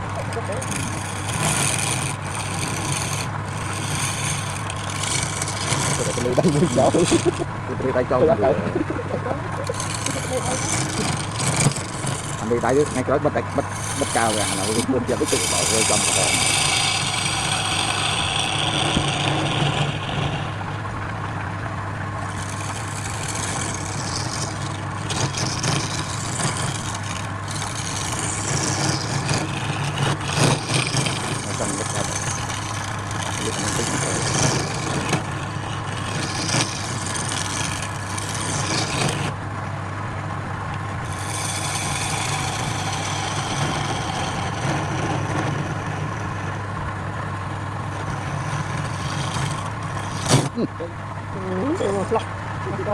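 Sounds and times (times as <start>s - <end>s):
lathe motor humming: 0.0s - 52.9s
tool scraping spinning wood: 0.0s - 52.9s.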